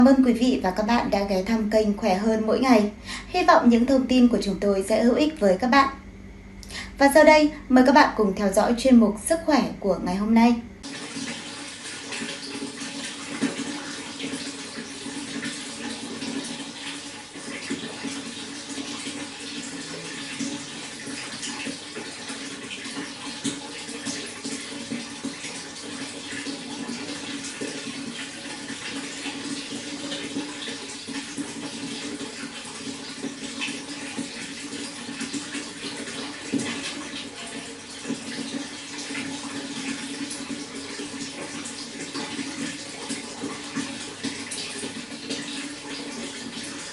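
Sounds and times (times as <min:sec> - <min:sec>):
running water flowing: 0:00.0 - 0:05.9, 0:06.7 - 0:46.9.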